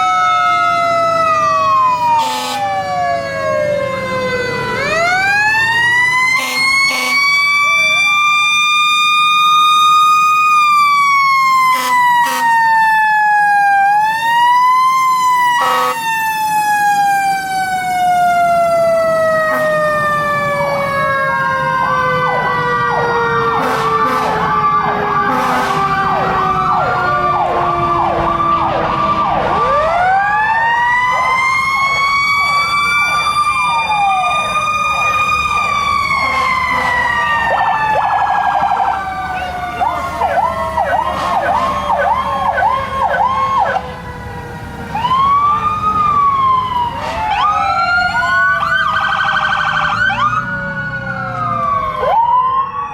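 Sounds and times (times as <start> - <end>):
electronic sirens yelping: 0.0 - 52.9.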